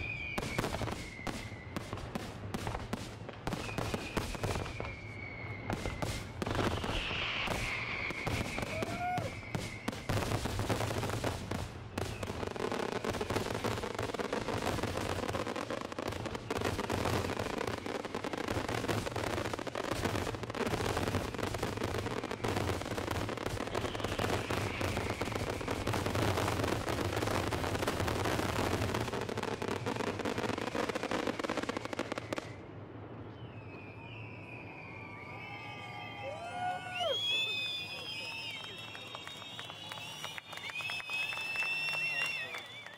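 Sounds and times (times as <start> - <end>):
falling firework whistle: 0.0 - 42.9
fireworks bangs and crackling: 0.0 - 42.9.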